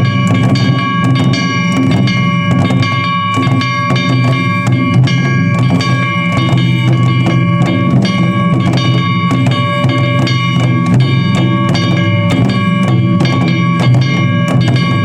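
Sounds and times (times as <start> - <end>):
high ringing tone: 0.0 - 15.0
taiko drums beaten: 0.0 - 15.0.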